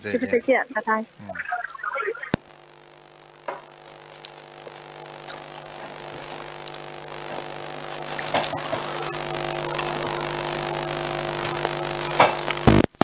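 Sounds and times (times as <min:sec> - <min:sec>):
telephone line hum and hiss: 0:00.0 - 0:13.0.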